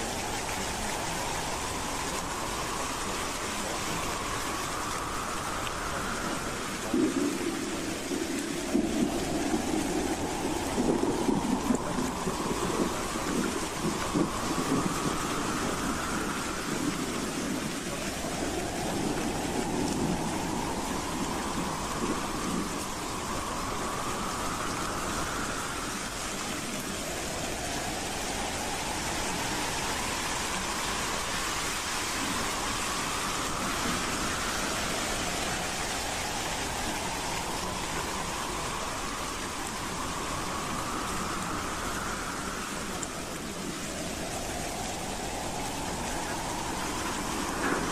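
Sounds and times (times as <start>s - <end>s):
howling wind: 0.0s - 47.9s.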